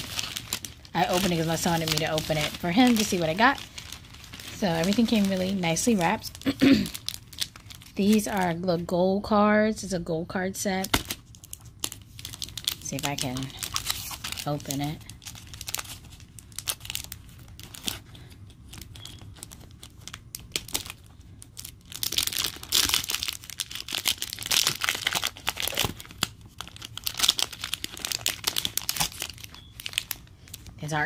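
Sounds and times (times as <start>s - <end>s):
plastic wrapping crinkling: 0.0s - 8.7s, 10.8s - 31.0s.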